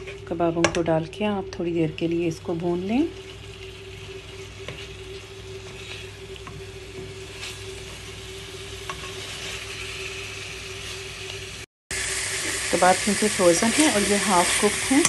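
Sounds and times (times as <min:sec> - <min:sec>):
food sizzling in oil: 0:00.0 - 0:15.0
steady hum: 0:00.0 - 0:15.0.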